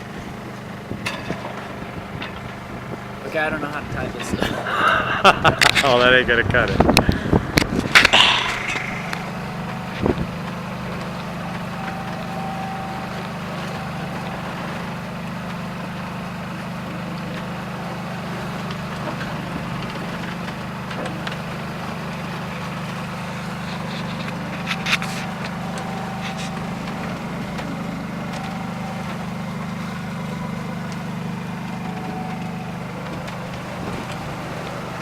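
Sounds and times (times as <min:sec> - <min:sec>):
boat engine humming: 0:00.0 - 0:35.0.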